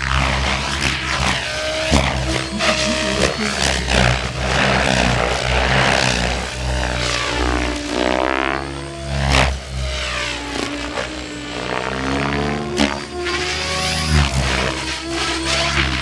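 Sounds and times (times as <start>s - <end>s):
electric motor whine: 0.0s - 16.0s
rotor blades whirring chop: 0.0s - 16.0s.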